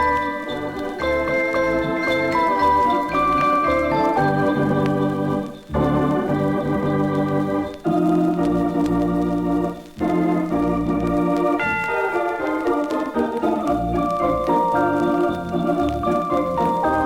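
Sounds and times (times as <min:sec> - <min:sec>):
organ-like keyboard chords: 0:00.0 - 0:17.0.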